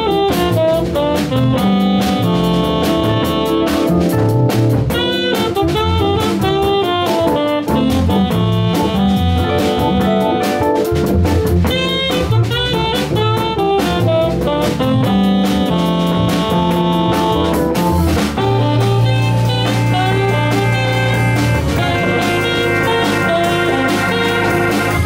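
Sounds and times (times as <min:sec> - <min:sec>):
drum kit: 0:00.0 - 0:25.0
electric guitar: 0:00.0 - 0:25.0
organ chords: 0:00.0 - 0:25.0
tenor saxophone melody: 0:00.0 - 0:25.0.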